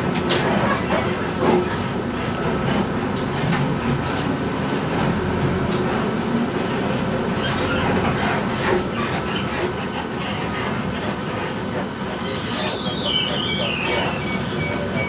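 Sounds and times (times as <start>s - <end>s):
bus engine and road rumble: 0.0s - 15.0s
sharp rattles from bus body: 0.0s - 15.0s.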